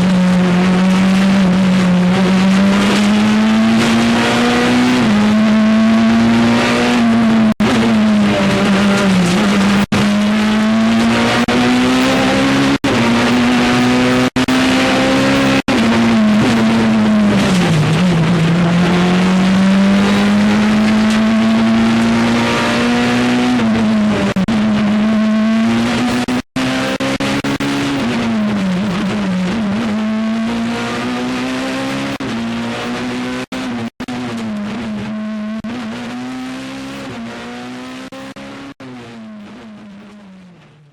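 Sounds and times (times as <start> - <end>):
rally car engine at high revs: 0.0 - 40.9.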